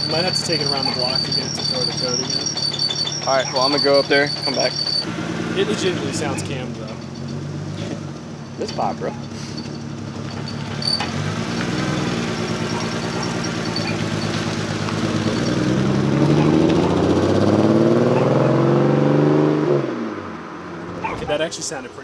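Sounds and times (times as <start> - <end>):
misfiring car engine accelerating: 0.0 - 21.1.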